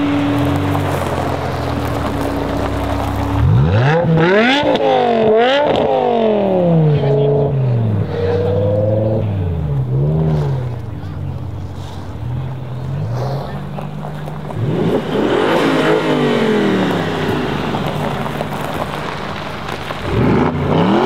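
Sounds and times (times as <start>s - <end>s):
sports car engine revving: 0.0s - 21.0s.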